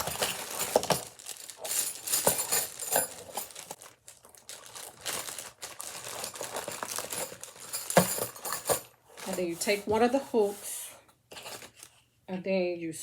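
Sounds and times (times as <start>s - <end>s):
packaging crinkling and rustling: 0.0s - 10.6s, 11.3s - 12.1s.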